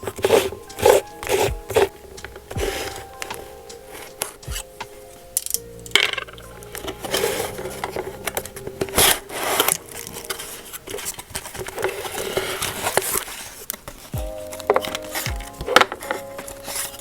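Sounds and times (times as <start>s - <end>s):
packaging rubbing and scraping: 0.0s - 4.4s, 6.7s - 17.0s
soft background music: 0.0s - 13.2s, 14.0s - 17.0s.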